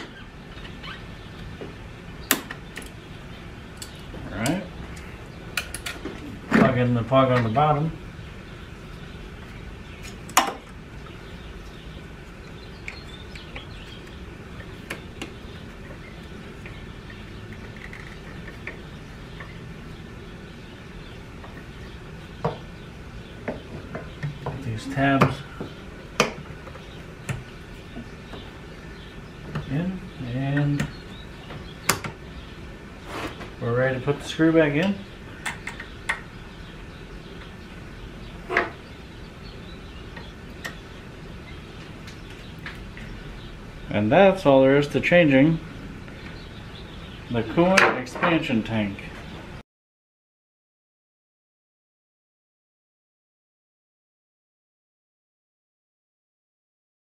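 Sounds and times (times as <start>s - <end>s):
steady low hum: 0.0s - 49.6s.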